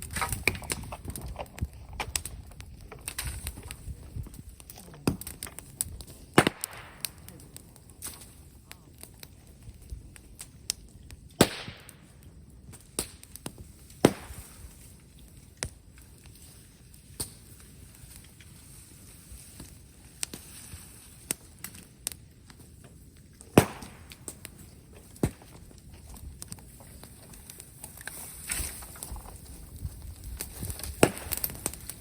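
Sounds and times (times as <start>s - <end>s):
bonfire popping and crackling: 0.0s - 32.0s.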